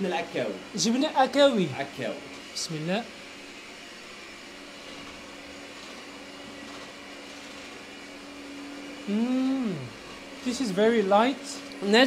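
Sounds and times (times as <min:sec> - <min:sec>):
machine whirring: 0:00.0 - 0:12.0.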